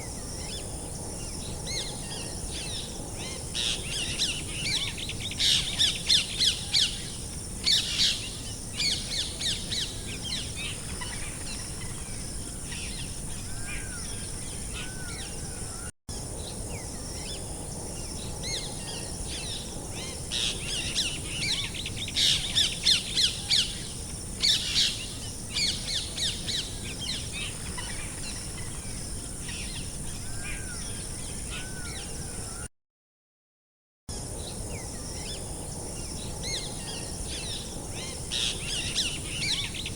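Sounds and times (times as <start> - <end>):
outdoor background noise: 0.0 - 32.7, 34.1 - 39.9.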